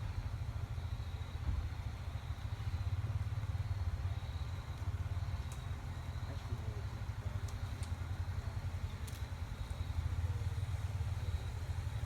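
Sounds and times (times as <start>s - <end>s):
engine rumbling at low speed: 0.0s - 12.0s.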